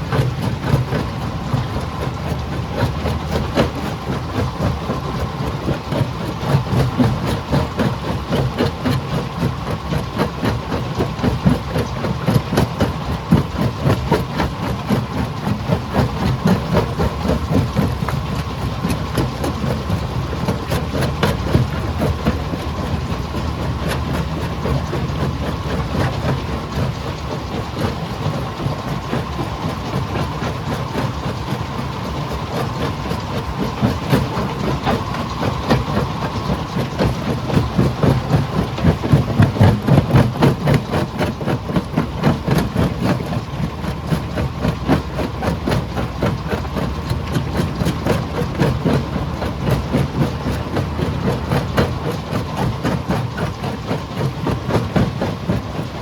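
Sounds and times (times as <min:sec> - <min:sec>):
engine drone: 0:00.0 - 0:56.0.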